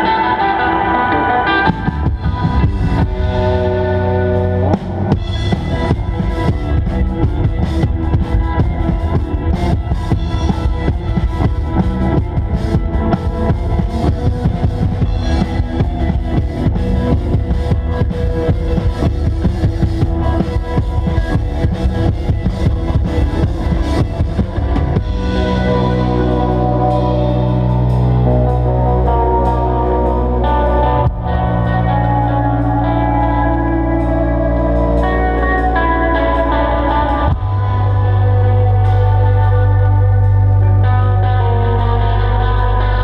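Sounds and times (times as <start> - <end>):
guitars playing: 0.0 - 43.0
drum kit pounding: 1.6 - 36.0, 37.0 - 39.1.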